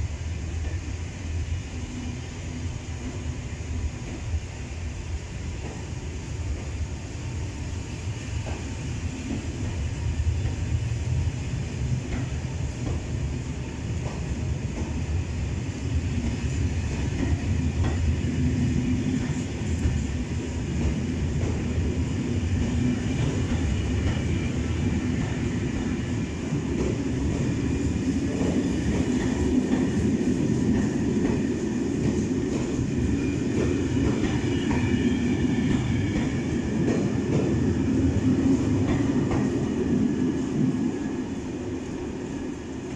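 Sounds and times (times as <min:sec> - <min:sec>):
train coaches rumbling: 0:00.0 - 0:42.9.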